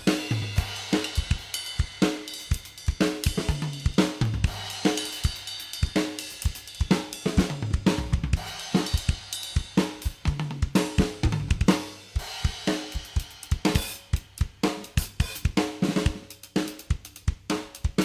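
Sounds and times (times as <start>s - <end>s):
drum kit playing a groove: 0.0s - 18.0s.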